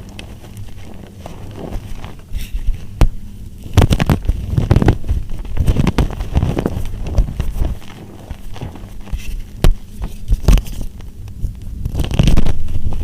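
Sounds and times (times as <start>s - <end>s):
soap crunching crackles: 0.0s - 13.0s.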